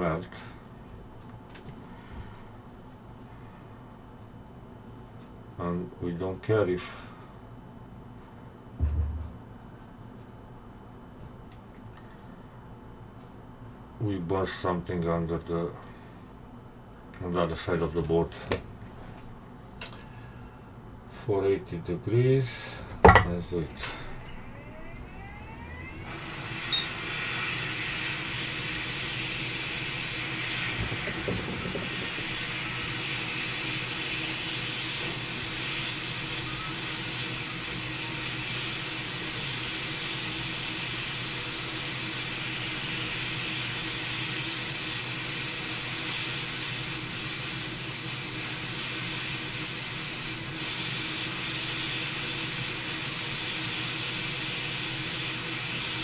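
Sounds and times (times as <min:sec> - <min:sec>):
hot air station fan hiss: 0:00.0 - 0:09.6, 0:11.9 - 0:56.0.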